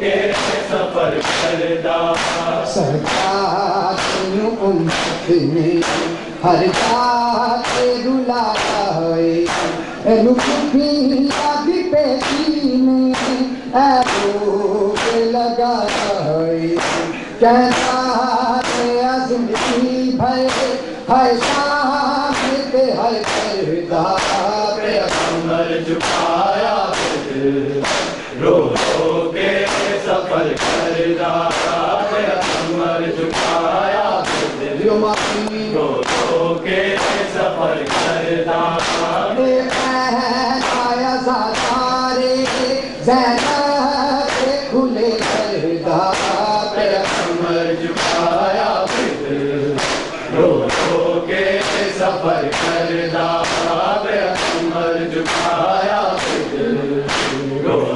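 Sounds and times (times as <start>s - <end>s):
men chanting together: 0.0s - 57.9s
chest beating slaps: 0.2s - 14.4s, 15.0s - 20.8s, 21.4s - 40.9s, 41.5s - 42.8s, 43.4s - 57.5s.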